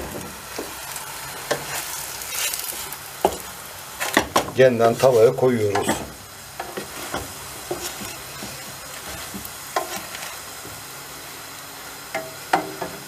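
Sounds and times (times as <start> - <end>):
wooden spatula scraping a pan: 0.0 - 10.8
food sizzling in a pan: 0.0 - 13.0.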